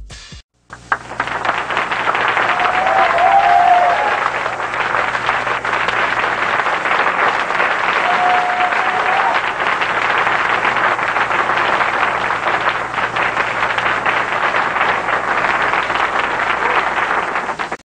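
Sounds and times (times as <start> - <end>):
audience applause: 0.7 - 17.8.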